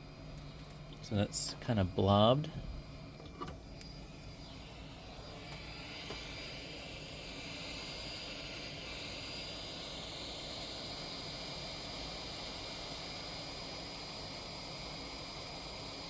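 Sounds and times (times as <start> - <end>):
fan whooshing: 0.0 - 16.0
thin high whine: 0.0 - 16.0.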